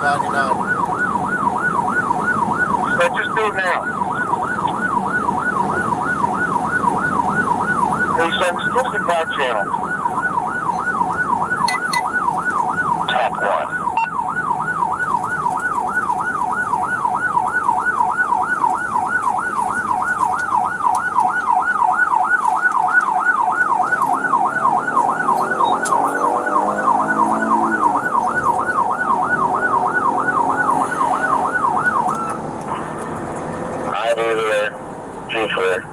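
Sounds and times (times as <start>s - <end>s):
police siren yelping: 0.0s - 35.9s.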